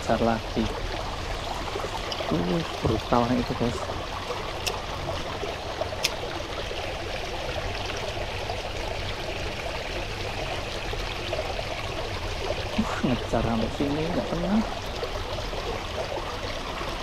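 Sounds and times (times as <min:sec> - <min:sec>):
stream flowing over stones: 0:00.0 - 0:17.0.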